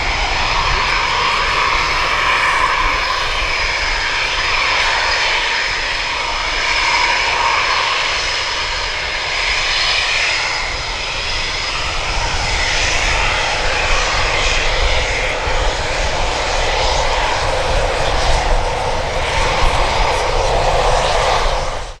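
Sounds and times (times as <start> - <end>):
jet flying by: 0.0 - 22.0.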